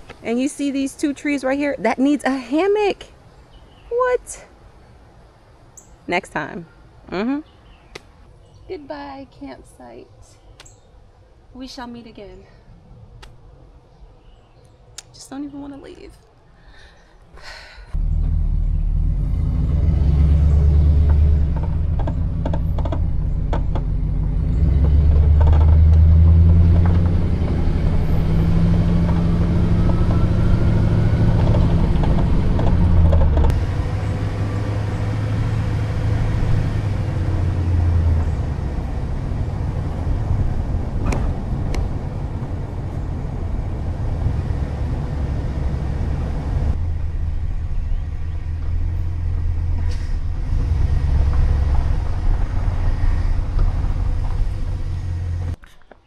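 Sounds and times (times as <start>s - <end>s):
engine and road rumble: 0.0s - 10.9s, 17.9s - 56.0s.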